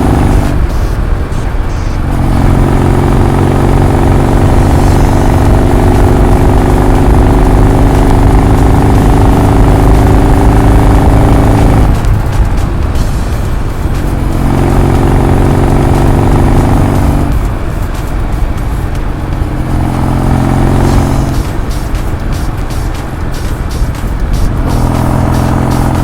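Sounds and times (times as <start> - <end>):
vehicle engine accelerating: 0.0 - 26.0.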